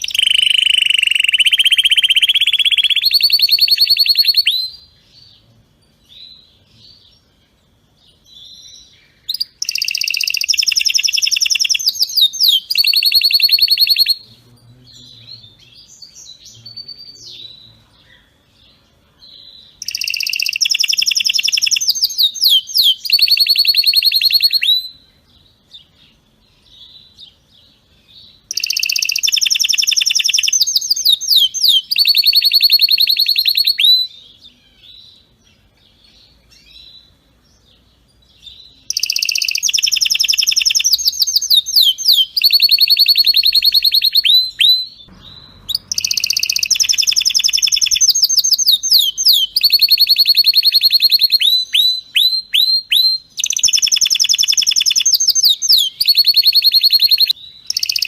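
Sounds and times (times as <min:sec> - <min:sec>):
canary singing trilled phrases: 0:00.0 - 0:58.0.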